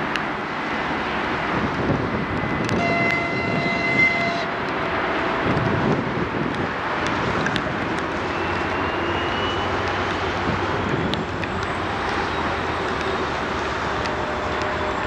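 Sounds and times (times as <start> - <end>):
diesel locomotive engine roaring: 0.0 - 15.0.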